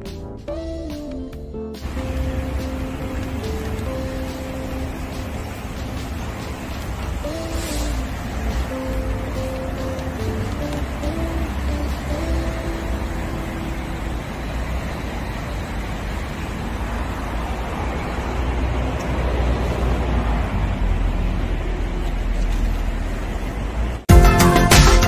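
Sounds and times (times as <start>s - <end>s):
road traffic rumble: 1.8s - 24.1s.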